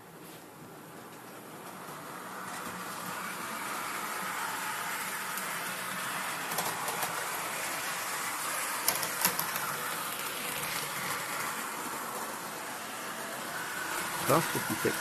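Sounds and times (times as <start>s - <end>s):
model train running on track: 1.4s - 15.0s.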